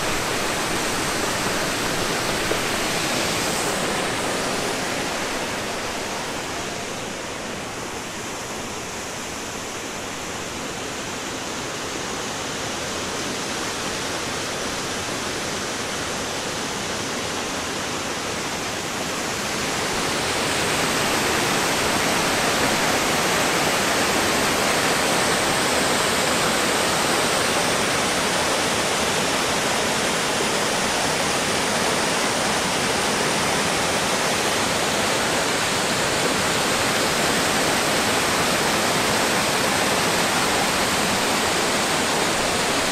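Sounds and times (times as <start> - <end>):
fast-flowing river water: 0.0 - 42.9.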